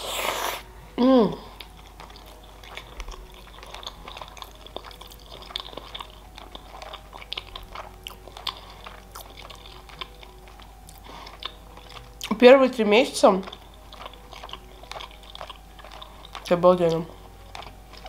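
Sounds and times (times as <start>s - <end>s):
woman chewing food: 0.0s - 18.0s.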